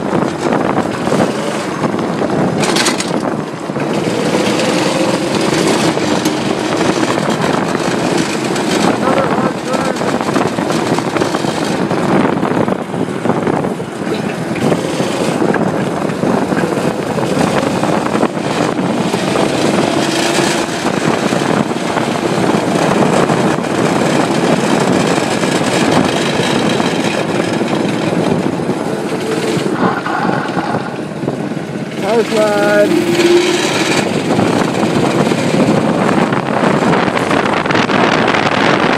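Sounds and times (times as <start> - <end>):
go-kart engine droning: 0.0 - 38.9.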